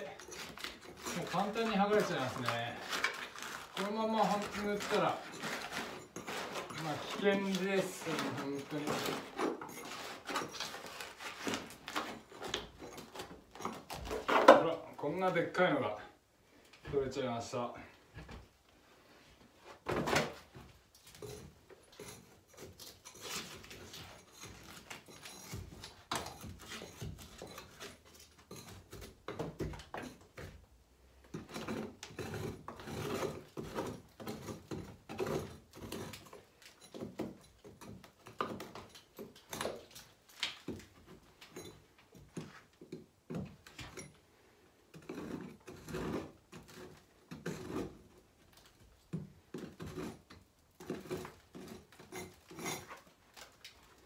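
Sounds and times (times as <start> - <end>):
scraping and crumbling of plaster: 0.0 - 54.0.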